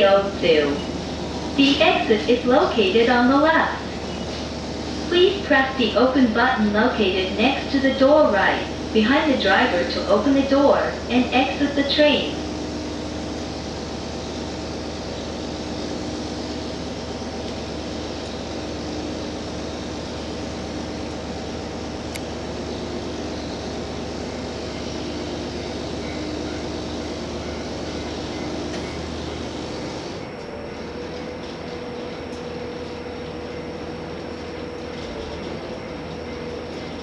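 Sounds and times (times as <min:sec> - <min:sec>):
railcar engine hum: 0:00.0 - 0:37.0
train wheels rumbling on rails: 0:00.0 - 0:37.0.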